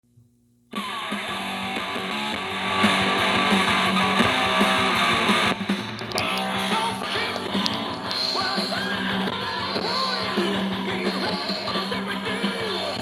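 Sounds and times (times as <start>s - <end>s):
live hard rock music: 0.7s - 13.0s.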